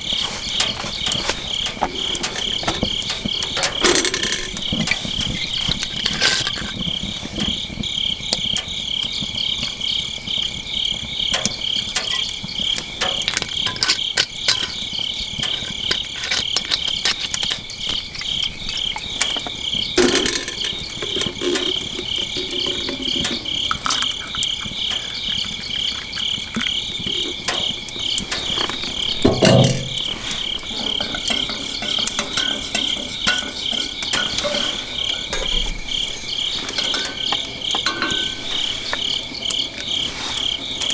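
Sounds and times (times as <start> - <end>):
crickets chirping: 0.0 - 40.9
wood fire crackling: 0.0 - 40.9.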